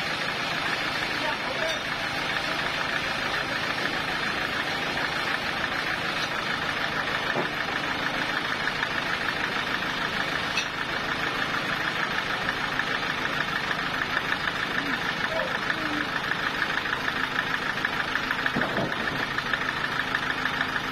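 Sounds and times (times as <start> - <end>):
sawmill machinery running: 0.0 - 20.9.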